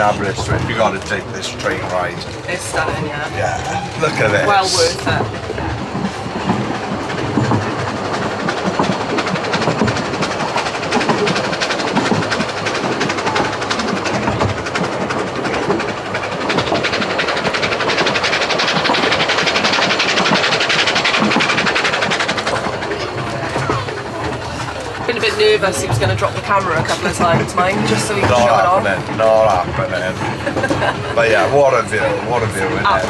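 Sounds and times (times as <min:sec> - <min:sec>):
train wheels clattering on track: 0:00.0 - 0:33.0.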